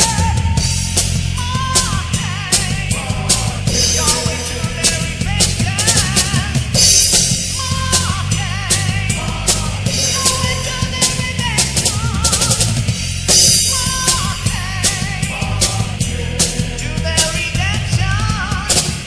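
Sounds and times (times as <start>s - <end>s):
drum kit with cymbal crashes: 0.0s - 19.0s
heavy metal band playing: 0.0s - 19.0s.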